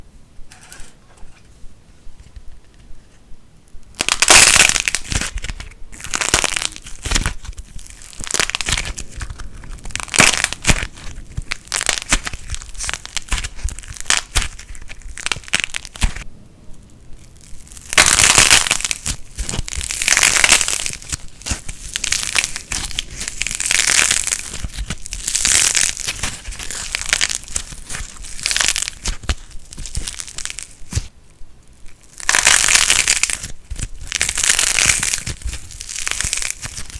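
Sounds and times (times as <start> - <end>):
plasticine crackling and crunching: 3.7 - 36.9.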